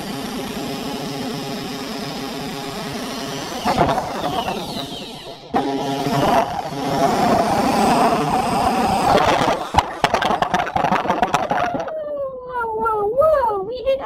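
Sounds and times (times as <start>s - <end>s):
electric drill running: 0.0s - 11.9s.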